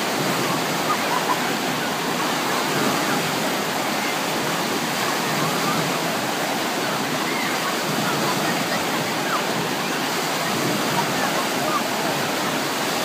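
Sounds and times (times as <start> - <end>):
waves breaking and churning: 0.0 - 13.0.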